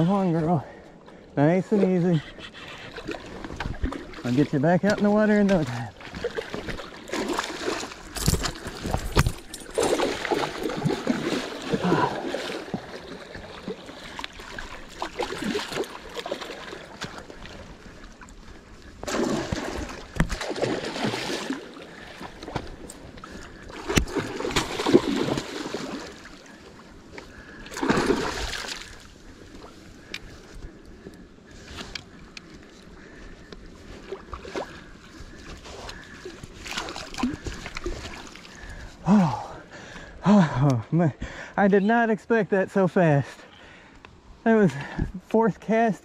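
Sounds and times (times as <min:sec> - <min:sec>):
water splashing and sloshing: 0:00.0 - 0:41.6.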